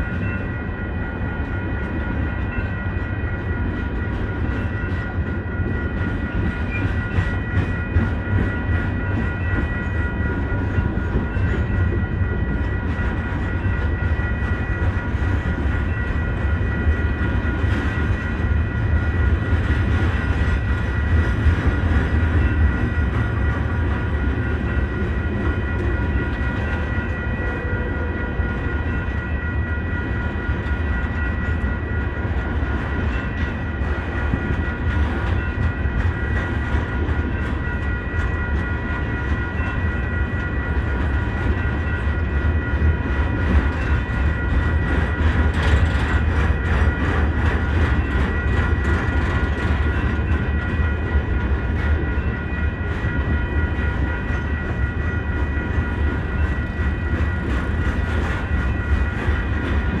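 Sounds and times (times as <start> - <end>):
freight train rumbling: 0.0 - 60.0.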